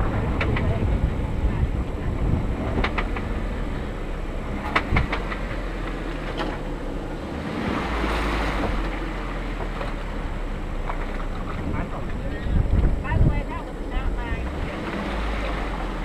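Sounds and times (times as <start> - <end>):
vehicle body knocking and rattling: 0.0 - 7.6, 8.4 - 15.0
vehicle engine running low: 0.0 - 16.0.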